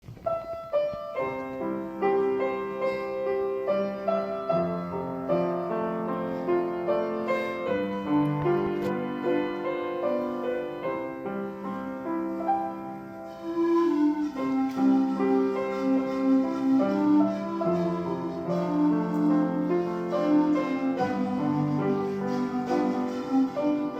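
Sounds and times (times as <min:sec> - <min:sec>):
piano playing hymn: 0:00.0 - 0:23.9.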